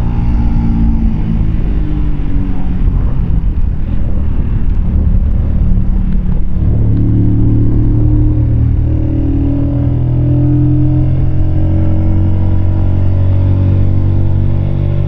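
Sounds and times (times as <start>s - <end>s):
motorcycle engine running: 0.0s - 15.0s
wind rumble: 0.0s - 15.0s.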